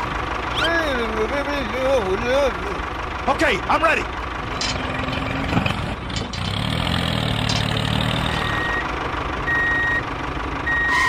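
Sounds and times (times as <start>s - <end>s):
engine idling: 0.0s - 6.6s, 7.4s - 11.0s.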